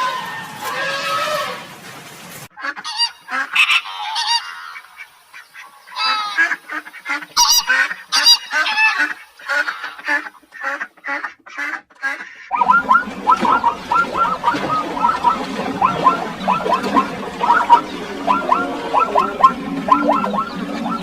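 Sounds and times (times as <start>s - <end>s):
geese honking: 0.0s - 1.7s, 2.5s - 21.0s.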